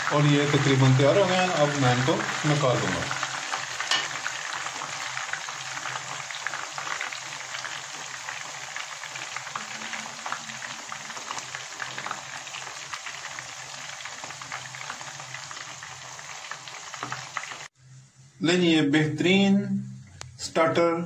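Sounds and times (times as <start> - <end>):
hot oil sizzling and crackling: 0.0 - 17.8.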